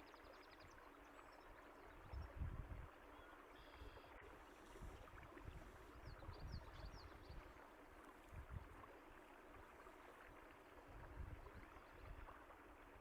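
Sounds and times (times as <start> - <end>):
faint running water: 0.0 - 13.0.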